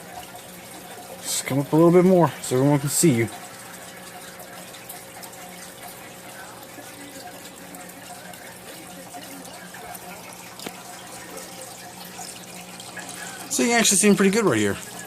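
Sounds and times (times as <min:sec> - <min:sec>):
water trickling in aquarium: 0:00.0 - 0:15.0.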